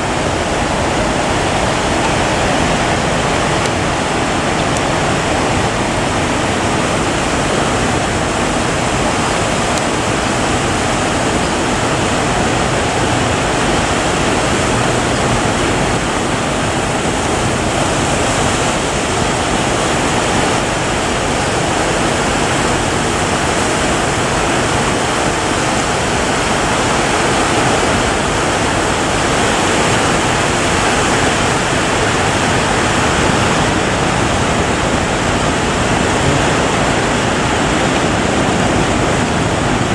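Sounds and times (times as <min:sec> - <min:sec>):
heavy surf breaking: 0:00.0 - 0:39.9.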